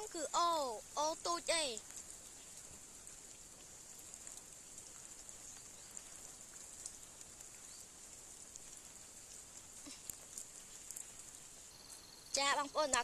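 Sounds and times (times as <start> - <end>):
even outdoor hiss: 0.0 - 13.0
faint ticks: 1.0 - 13.0.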